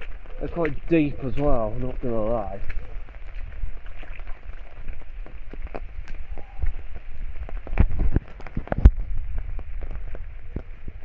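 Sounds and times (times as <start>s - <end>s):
heavy rain falling: 0.0s - 11.0s
raindrops ticking near microphone: 0.0s - 11.0s.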